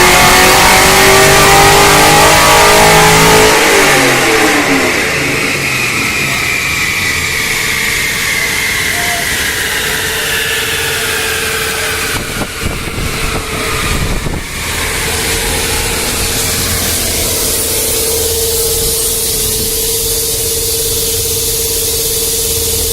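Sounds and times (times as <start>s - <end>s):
car engine idling loudly: 0.0s - 22.9s
steady hum: 0.0s - 22.9s.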